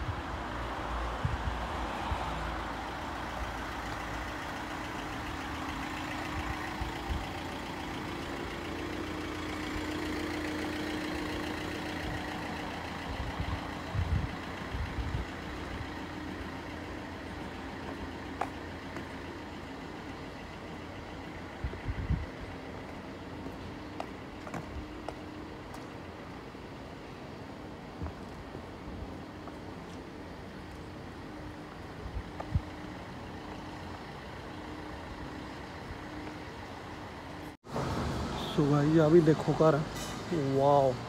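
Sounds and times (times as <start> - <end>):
vehicle engine running: 2.3 - 41.0.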